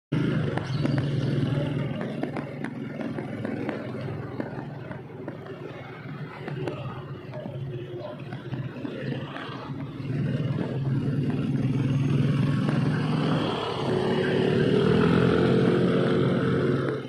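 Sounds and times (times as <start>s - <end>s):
motorcycle engine droning: 0.1s - 17.0s
street traffic noise: 0.1s - 17.0s.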